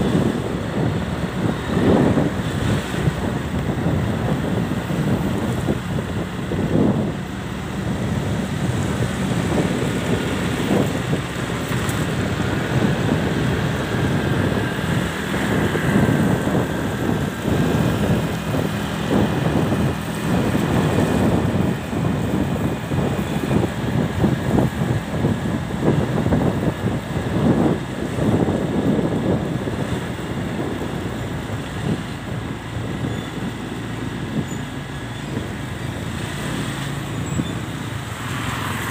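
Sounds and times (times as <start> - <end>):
motorcycle engine and tyres: 0.0 - 38.9
wind buffeting microphone: 0.0 - 38.9.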